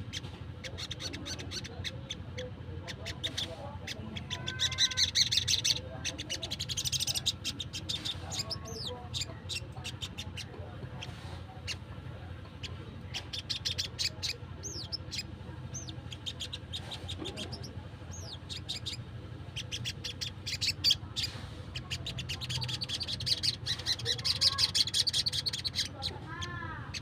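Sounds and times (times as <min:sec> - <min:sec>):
bird ticking calls: 0:00.0 - 0:27.0.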